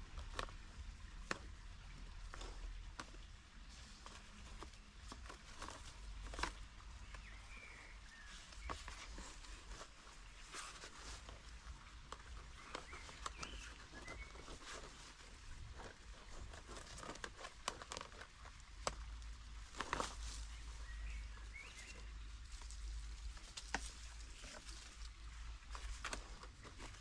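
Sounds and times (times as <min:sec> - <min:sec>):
soil rustling and scraping: 0:00.0 - 0:27.0
bird chirping faintly: 0:00.3 - 0:17.2, 0:18.8 - 0:27.0.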